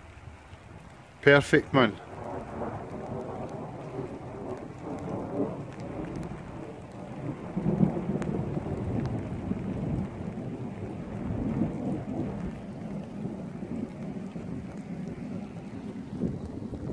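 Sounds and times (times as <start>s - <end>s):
raindrop ticks: 0.0s - 16.9s
steady rain: 0.0s - 16.9s
thunder rumbling: 0.0s - 16.9s.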